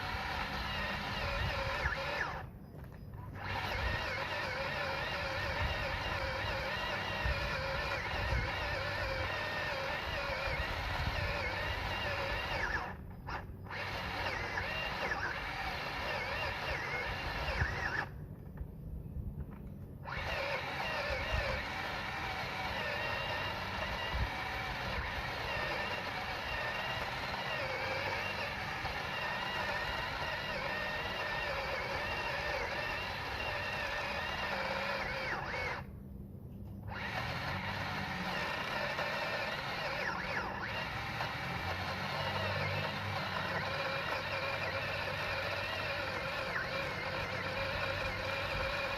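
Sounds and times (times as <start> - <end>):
electric saw motor whining: 0.0 - 48.9.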